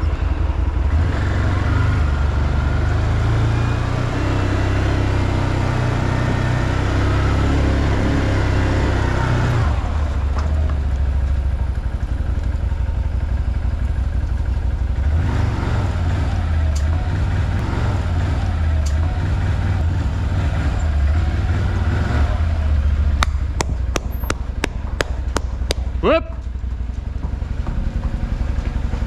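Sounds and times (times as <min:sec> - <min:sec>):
quad engine low rumble: 0:00.0 - 0:29.0.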